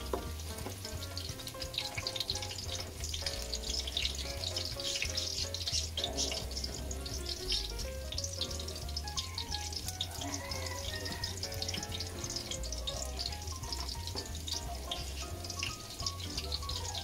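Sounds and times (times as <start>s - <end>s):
background music with bass: 0.0s - 17.0s
garlic sizzling in oil: 0.0s - 17.0s.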